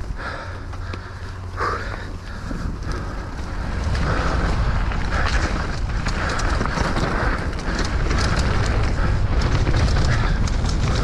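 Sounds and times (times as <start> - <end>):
bike clicking and rattling: 0.0 - 11.0
tyres on dirt: 0.0 - 11.0
wind rumble on microphone: 0.0 - 11.0.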